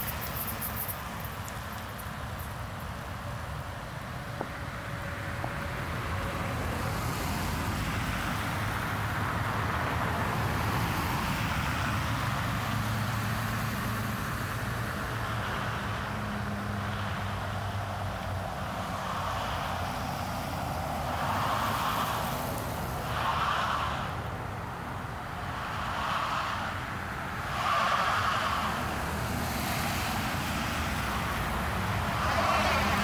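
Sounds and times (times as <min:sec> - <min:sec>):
tyres on slushy road: 0:00.0 - 0:33.0.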